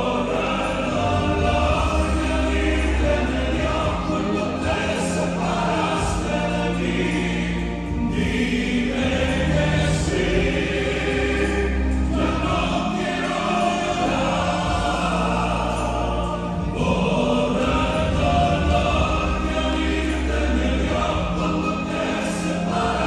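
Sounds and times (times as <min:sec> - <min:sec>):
male vocal trio singing in harmony: 0:00.0 - 0:23.0.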